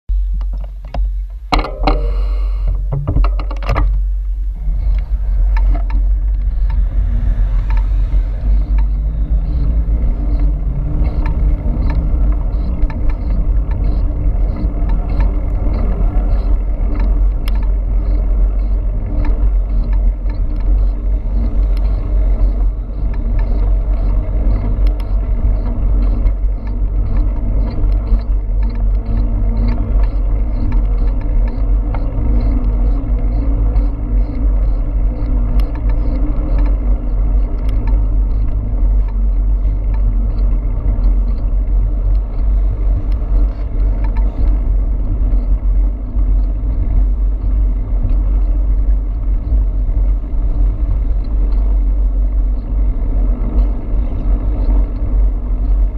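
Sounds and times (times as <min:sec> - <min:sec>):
wind buffeting microphone: 0:00.9 - 0:55.9
faint regular ticks: 0:04.6 - 0:55.9.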